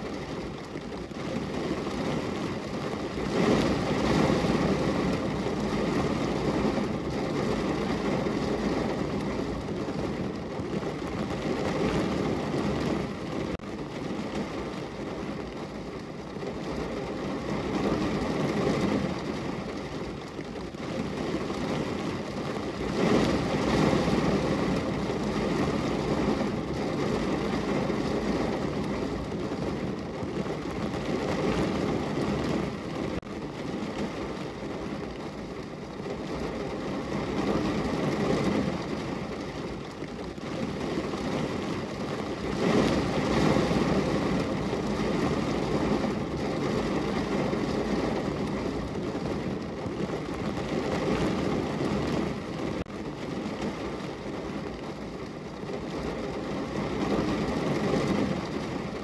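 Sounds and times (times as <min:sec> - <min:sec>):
rain on window glass: 0:00.0 - 0:59.0.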